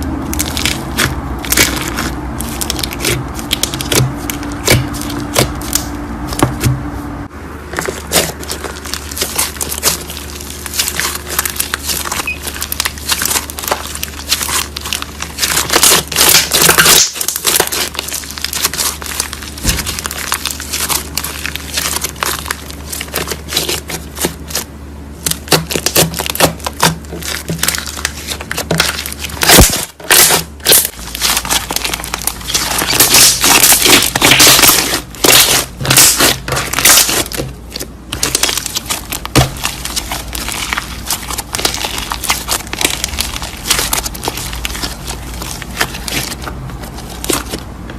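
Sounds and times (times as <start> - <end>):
slime squished by hand: 7.7 - 47.9.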